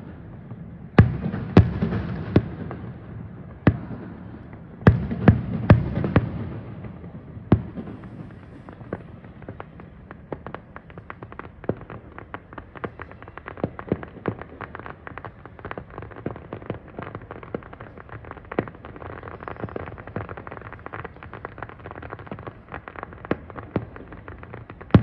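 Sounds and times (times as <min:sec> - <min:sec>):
distant fireworks crackling: 0:00.0 - 0:25.0.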